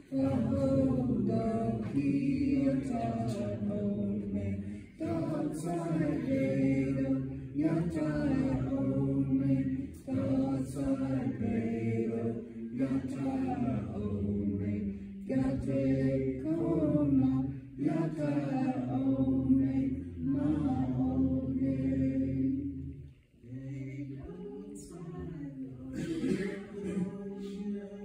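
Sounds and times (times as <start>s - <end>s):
voices singing a hymn: 0.0s - 28.0s.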